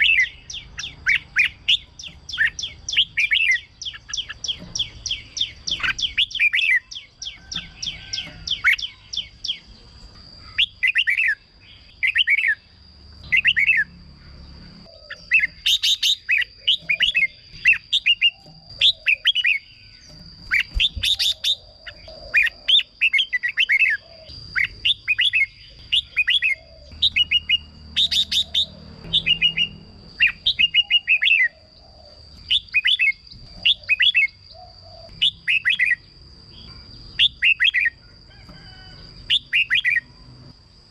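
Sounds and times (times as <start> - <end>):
bird singing warbled phrases: 0.0 - 38.1, 39.0 - 40.9.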